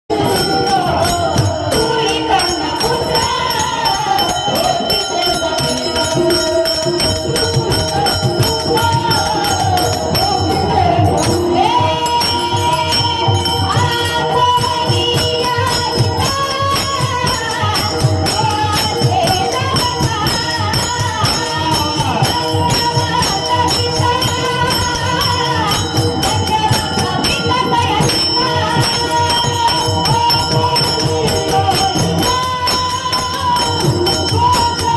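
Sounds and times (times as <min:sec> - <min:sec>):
jingling metallic percussion: 0:00.1 - 0:34.9
person singing devotional melody: 0:00.1 - 0:34.9
steady held tones: 0:00.1 - 0:34.9.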